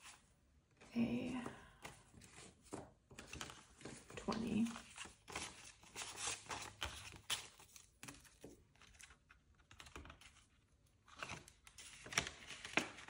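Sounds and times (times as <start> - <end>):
banknotes and plastic pages rustling: 1.2 - 13.0.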